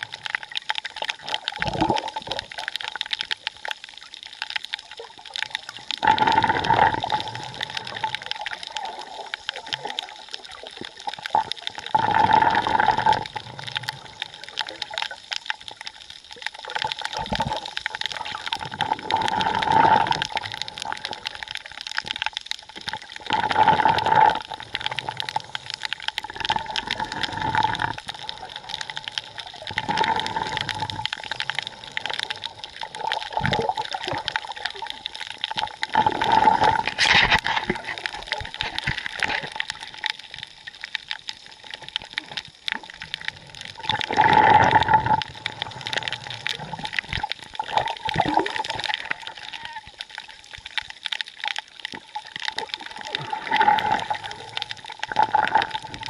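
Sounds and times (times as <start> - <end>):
rushing gurgling water: 0.0 - 56.0
underwater crackling hiss: 0.0 - 56.0.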